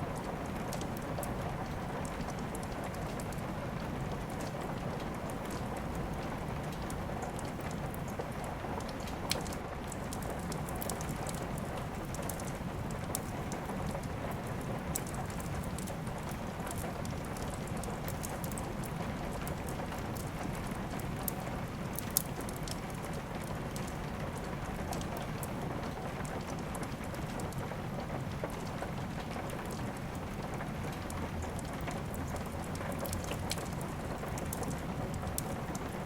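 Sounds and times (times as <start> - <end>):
steady rain: 0.0 - 36.0
wood fire crackling: 0.1 - 36.0.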